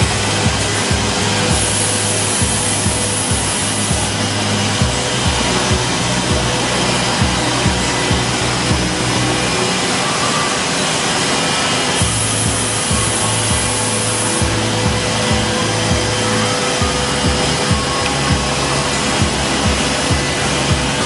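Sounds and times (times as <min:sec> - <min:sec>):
router cutting wood: 0:00.0 - 0:21.0
wood router spindle whine: 0:00.0 - 0:21.0.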